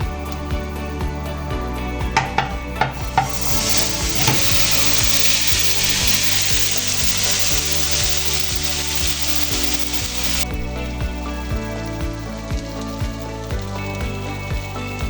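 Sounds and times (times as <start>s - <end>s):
quiet background music: 0.0s - 15.0s
food frying in hot oil: 2.0s - 15.0s.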